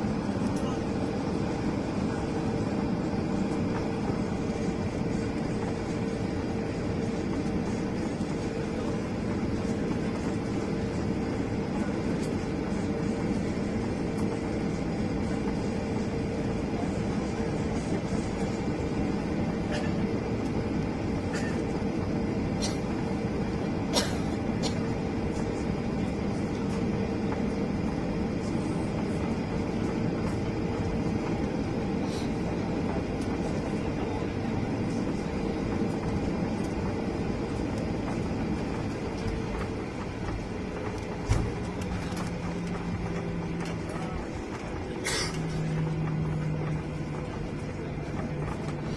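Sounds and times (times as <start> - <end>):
jet engines and airflow rumble: 0.0 - 48.9.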